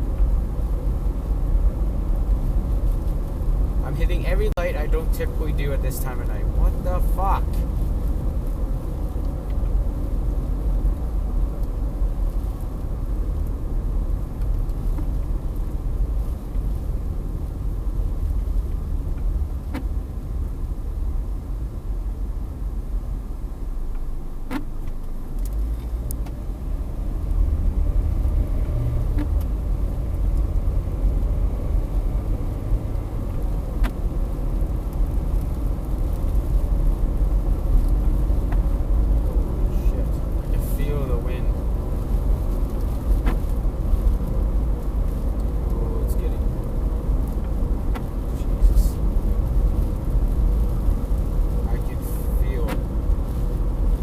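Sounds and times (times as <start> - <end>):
road and wind noise in car: 0.0 - 54.0.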